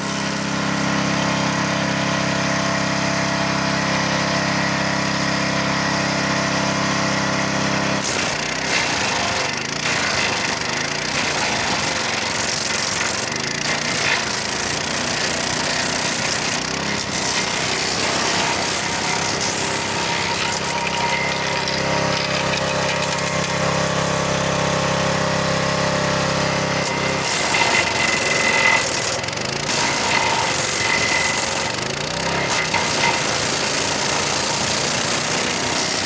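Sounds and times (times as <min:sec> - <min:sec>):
wood chipper engine running: 0:00.0 - 0:36.0.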